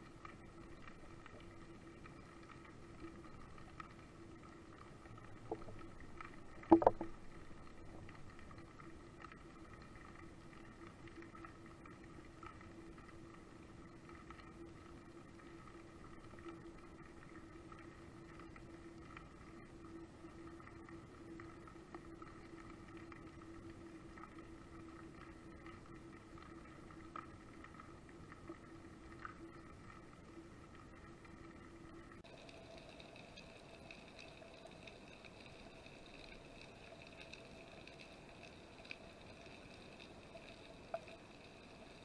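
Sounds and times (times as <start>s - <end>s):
faint underwater hum: 0.0s - 42.0s.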